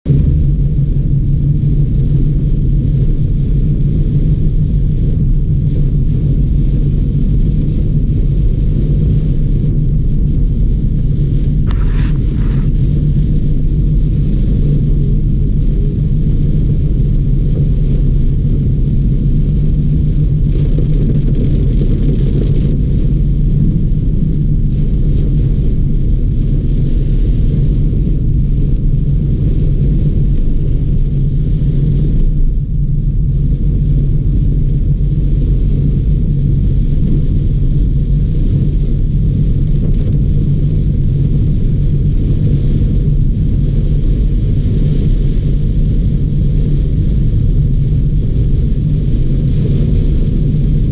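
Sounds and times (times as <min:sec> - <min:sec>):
heavy rain rumbling: 0:00.1 - 0:50.9.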